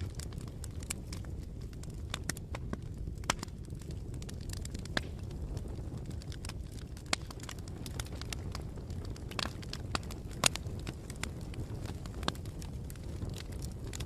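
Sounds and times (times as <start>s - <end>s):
burning wood snapping: 0.0s - 14.0s
loud fire pops: 0.0s - 14.0s
low rumble of flames: 0.0s - 14.0s.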